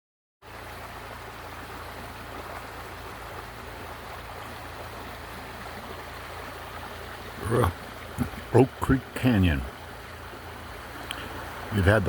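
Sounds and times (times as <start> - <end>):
stream water rushing: 0.4 - 12.0.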